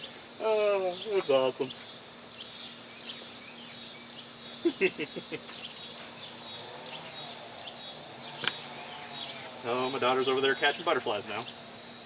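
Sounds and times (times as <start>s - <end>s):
insects trilling: 0.0s - 12.0s
short insect chirps: 0.0s - 12.0s.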